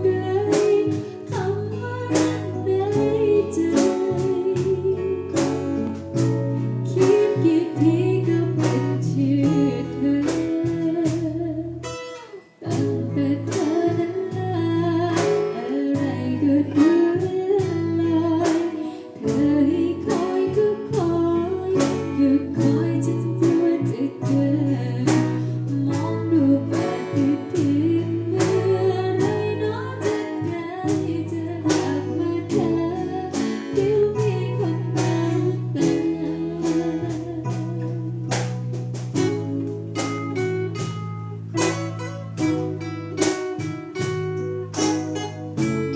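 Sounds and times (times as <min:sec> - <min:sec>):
person singing: 0:00.0 - 0:39.4
guitar bass and drum band: 0:00.0 - 0:45.9.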